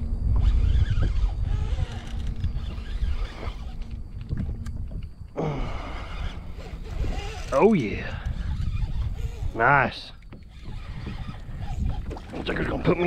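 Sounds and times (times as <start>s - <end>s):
faint steady hum: 0.0s - 13.0s
water noise: 0.0s - 13.0s
wind rumbling on microphone: 0.0s - 13.0s.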